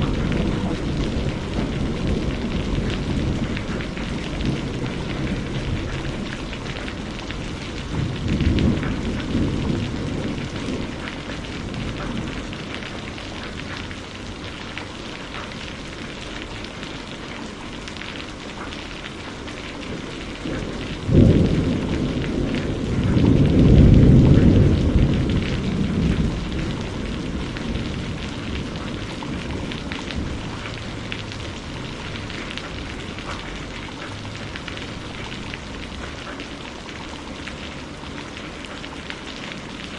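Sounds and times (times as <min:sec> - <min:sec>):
thunder rumbling and cracking: 0:00.0 - 0:17.8, 0:18.5 - 0:39.9
rain pattering: 0:00.0 - 0:39.9.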